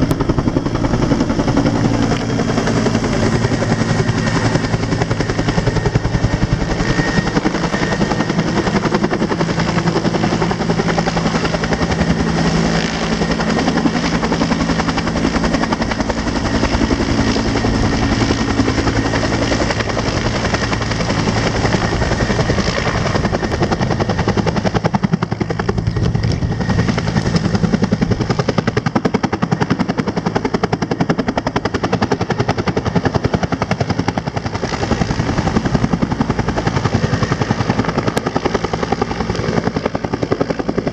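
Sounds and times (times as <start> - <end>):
helicopter rotor beating: 0.0 - 40.9.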